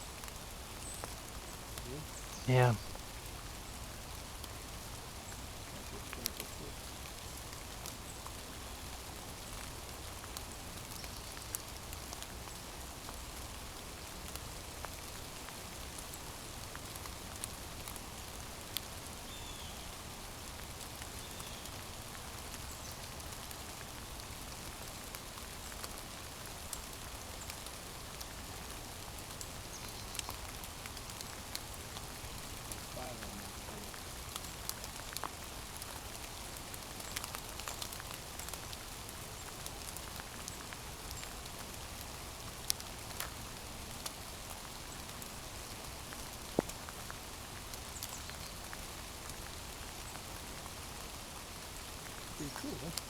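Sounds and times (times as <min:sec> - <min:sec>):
light rain hissing: 0:00.0 - 0:53.0.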